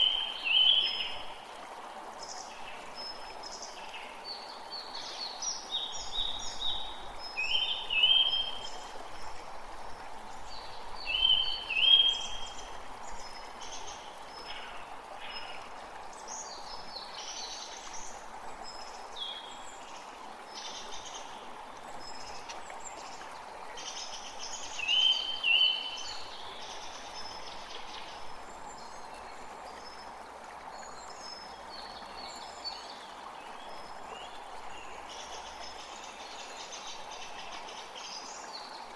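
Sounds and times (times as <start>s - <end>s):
creek water rushing: 0.0s - 38.9s
songbirds chirping: 0.0s - 38.9s.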